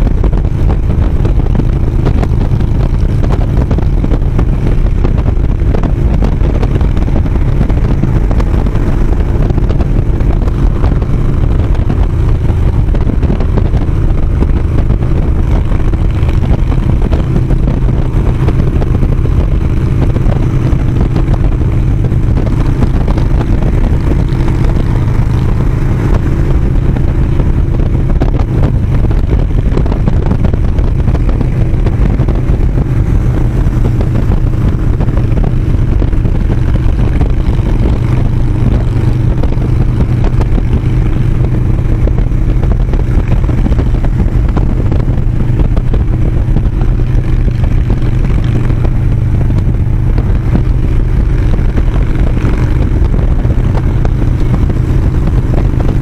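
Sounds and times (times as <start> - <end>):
motorcycle engine cruising: 0.0 - 56.0
road and wind noise: 0.0 - 56.0.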